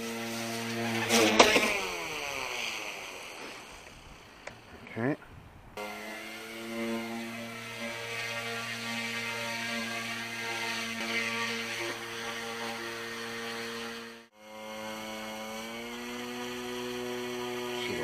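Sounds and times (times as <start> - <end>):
rc helicopter motor whining: 0.0 - 4.7, 5.8 - 18.0.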